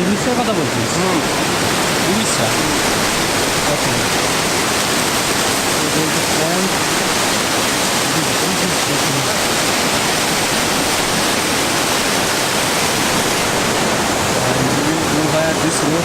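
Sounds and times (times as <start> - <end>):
rushing mountain water: 0.0 - 16.0.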